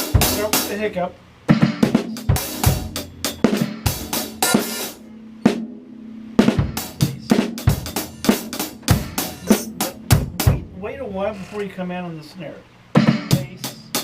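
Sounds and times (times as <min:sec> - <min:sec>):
drum kit groove: 0:00.0 - 0:11.8, 0:13.0 - 0:14.0.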